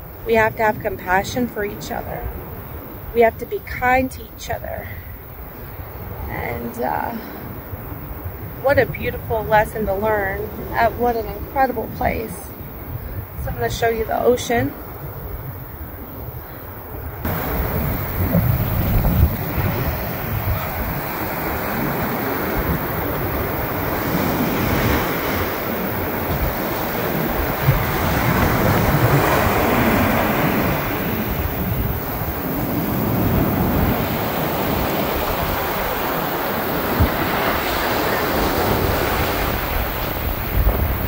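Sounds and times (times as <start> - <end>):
ocean waves breaking on shore: 0.0 - 41.0
wind buffeting microphone: 0.0 - 41.0.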